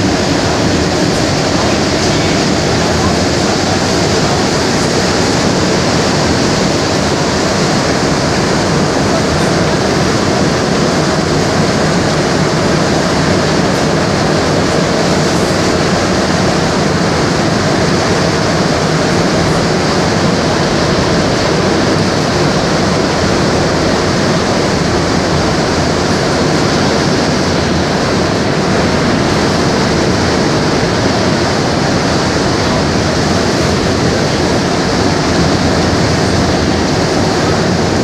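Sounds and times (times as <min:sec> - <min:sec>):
train roaring through tunnel: 0:00.0 - 0:38.0.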